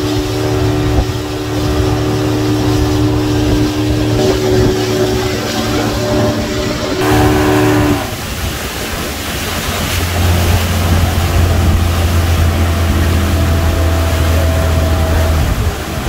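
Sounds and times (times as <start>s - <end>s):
boat wake churning: 0.0s - 16.0s
outboard motor running hard: 0.0s - 16.0s.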